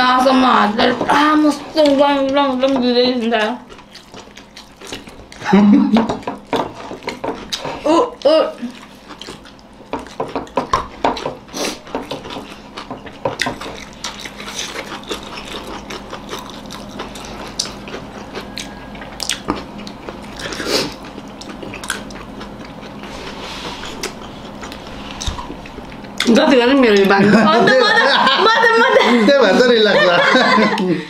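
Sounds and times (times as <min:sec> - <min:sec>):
fingers working food on plates: 0:00.6 - 0:27.2
people chewing and smacking: 0:00.9 - 0:27.3.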